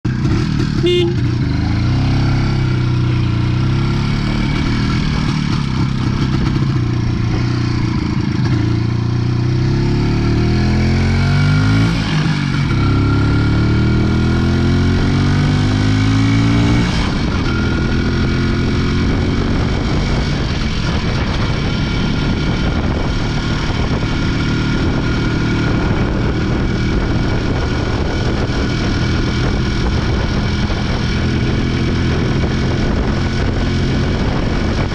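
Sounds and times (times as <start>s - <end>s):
two-stroke engine revving: 0.1s - 34.9s.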